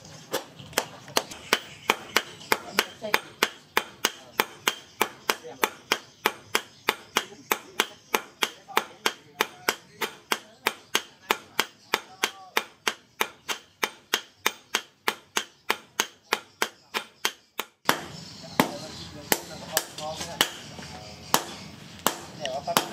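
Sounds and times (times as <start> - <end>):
hammer striking steel on anvil: 0.3 - 22.9.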